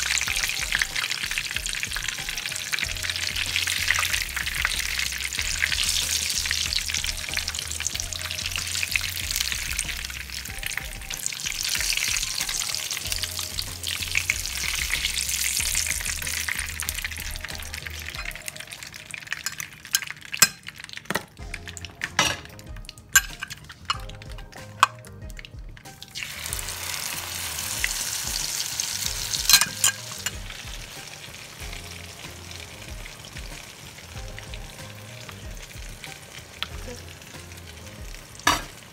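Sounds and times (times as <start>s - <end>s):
eggplant sizzling in a pan: 0.0s - 38.9s.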